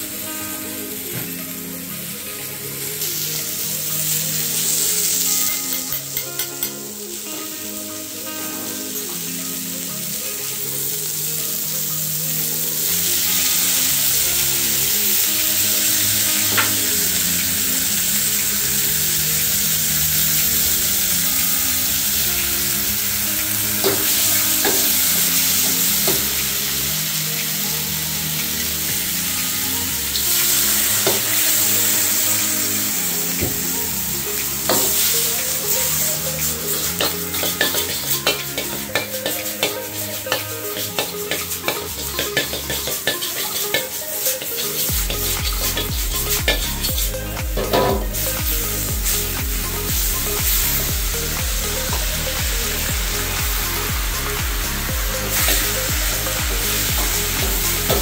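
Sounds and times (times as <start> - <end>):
food sizzling in a wok: 0.0 - 58.0
sauce poured sizzling: 0.0 - 58.0.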